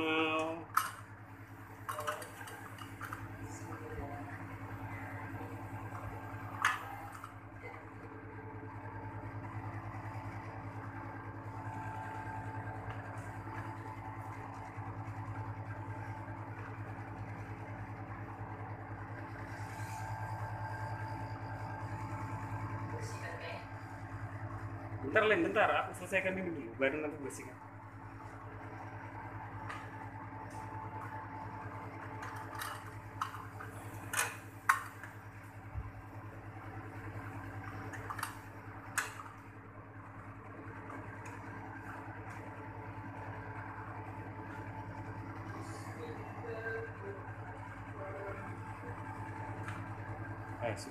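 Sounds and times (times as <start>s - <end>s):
air conditioner unit humming: 0.0s - 50.9s.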